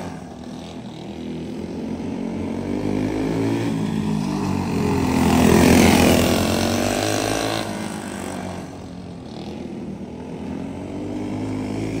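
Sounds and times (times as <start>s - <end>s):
go-kart engines racing: 0.0s - 12.0s.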